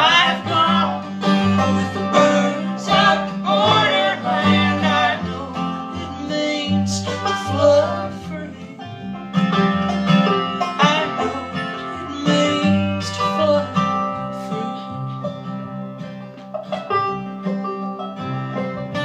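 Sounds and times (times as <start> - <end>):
acoustic folk string-band music: 0.0 - 19.0.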